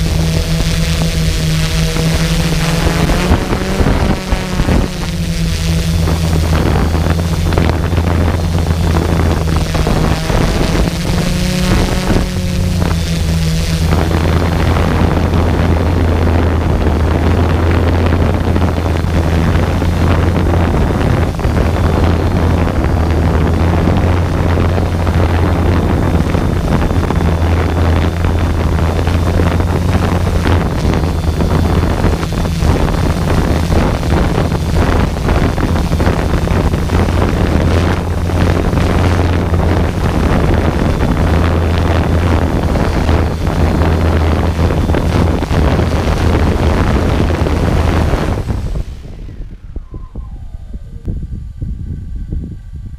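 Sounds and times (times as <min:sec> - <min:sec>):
drone propellers humming: 0:00.0 - 0:52.9
wind buffeting microphone: 0:00.0 - 0:52.9.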